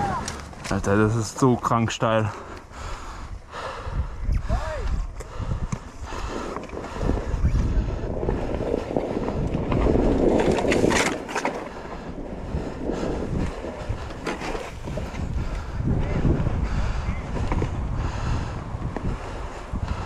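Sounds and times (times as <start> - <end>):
wind rumble on microphone: 2.7 - 20.0.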